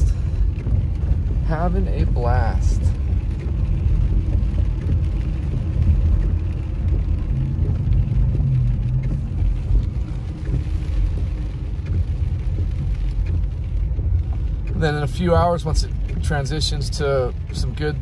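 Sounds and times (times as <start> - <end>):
car engine hum: 0.0 - 18.0
tyre noise on wet road: 0.0 - 18.0.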